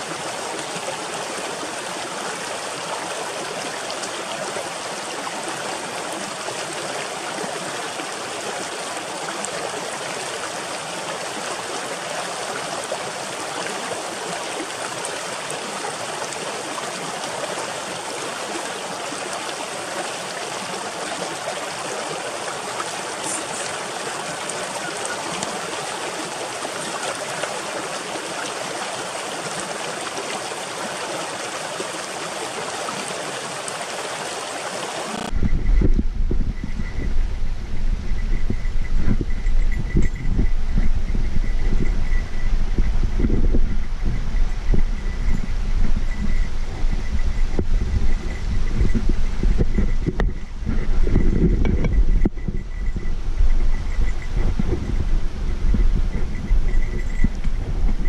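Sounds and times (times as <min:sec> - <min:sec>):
stream of running water: 0:00.0 - 0:58.0.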